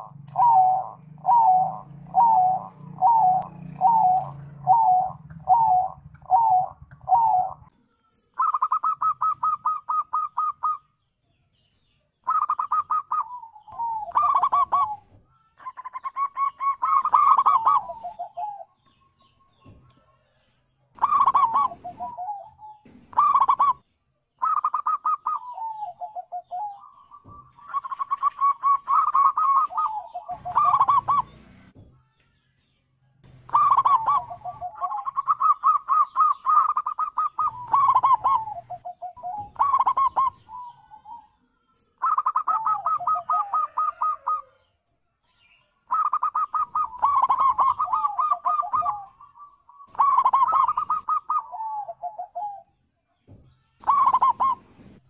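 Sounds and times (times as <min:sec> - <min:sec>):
dove cooing and trilling: 0:00.0 - 0:07.7, 0:08.3 - 0:11.0, 0:12.2 - 0:19.8, 0:20.9 - 0:31.7, 0:33.4 - 0:44.7, 0:45.8 - 0:52.8, 0:53.8 - 0:55.0.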